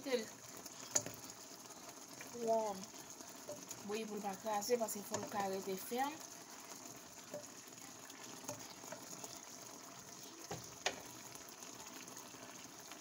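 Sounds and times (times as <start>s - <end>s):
pan simmering bubbling hiss: 0.0s - 13.0s.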